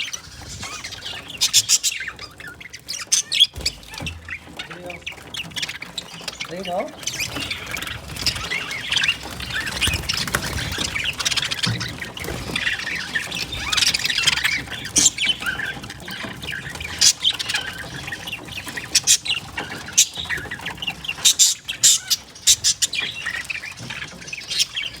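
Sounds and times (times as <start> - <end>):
budgerigars chattering: 0.0 - 25.0.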